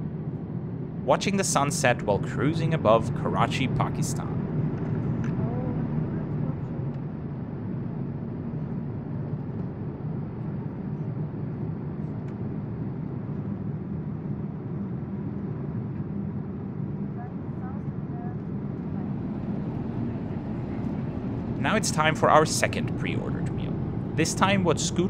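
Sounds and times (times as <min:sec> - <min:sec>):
airplane cabin low rumble: 0:00.0 - 0:25.0.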